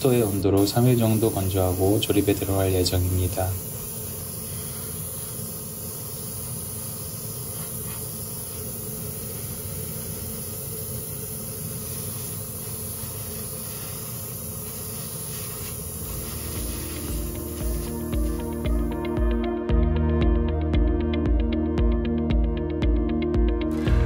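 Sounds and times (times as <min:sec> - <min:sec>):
airbrush spraying hiss: 0:00.0 - 0:19.7.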